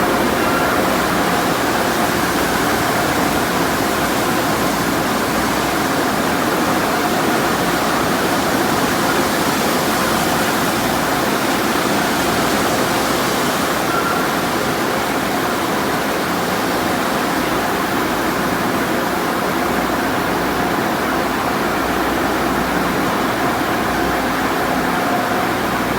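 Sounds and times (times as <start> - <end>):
car wash water jets spraying: 0.0 - 25.9.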